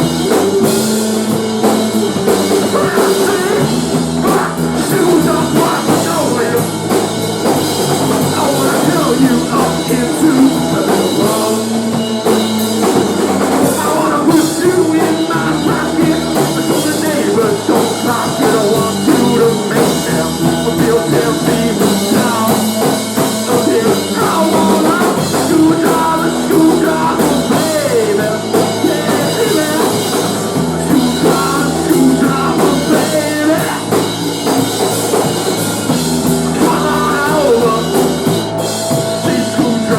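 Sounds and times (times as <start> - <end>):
driving drum kit: 0.0 - 39.9
rock band playing: 0.0 - 39.9.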